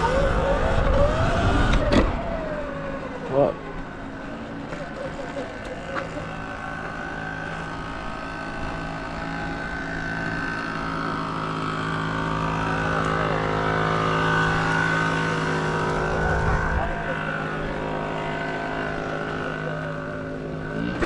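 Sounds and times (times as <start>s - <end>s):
vehicle motor running: 0.0s - 21.0s.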